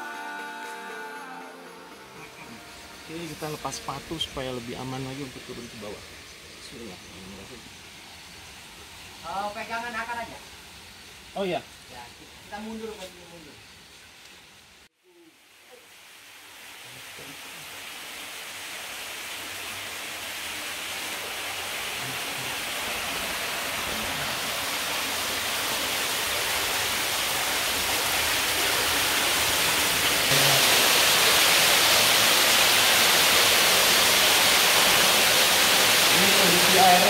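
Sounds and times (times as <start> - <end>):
water rushing: 1.5 - 13.5, 15.9 - 37.0.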